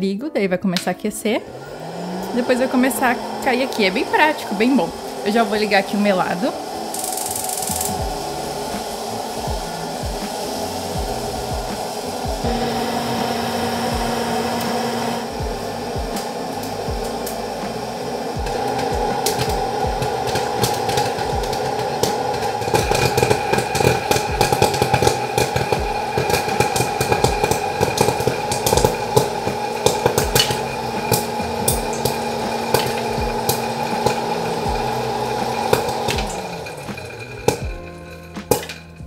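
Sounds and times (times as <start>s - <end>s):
popcorn maker fan humming: 1.4s - 39.0s
popcorn kernels popping: 6.7s - 39.0s.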